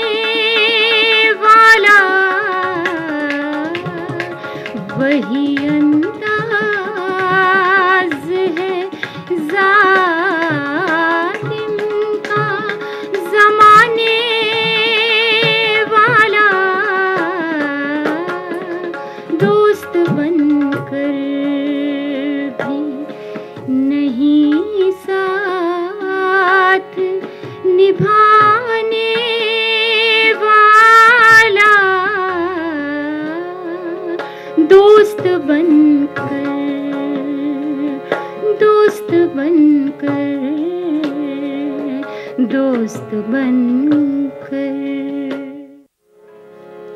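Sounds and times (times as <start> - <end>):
woman singing: 0.0 - 45.9
harmonium chords: 0.0 - 46.9.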